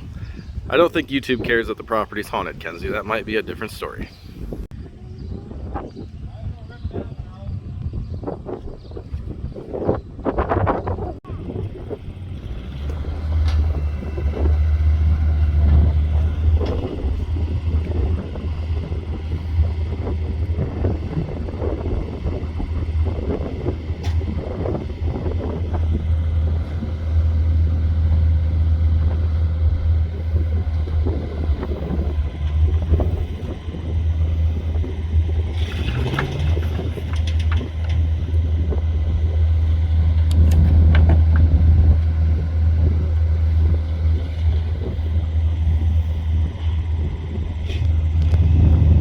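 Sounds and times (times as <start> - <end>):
engine rumbling: 0.0 - 49.0.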